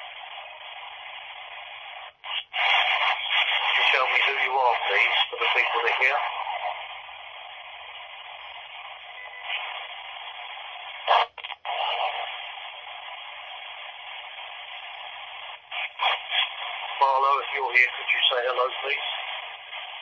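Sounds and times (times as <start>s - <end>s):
radio static through small speaker: 0.0s - 20.0s
static crackles: 0.0s - 20.0s.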